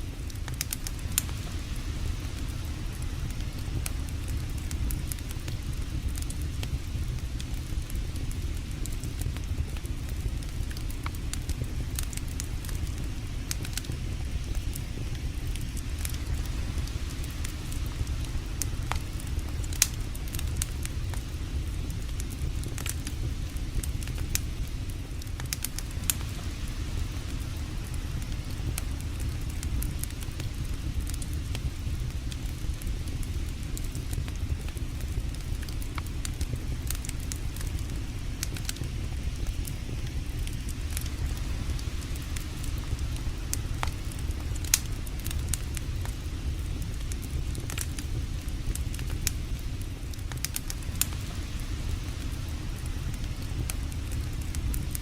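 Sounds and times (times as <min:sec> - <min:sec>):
campfire crackling and popping: 0:00.0 - 0:55.0
steady low rumble: 0:00.0 - 0:55.0.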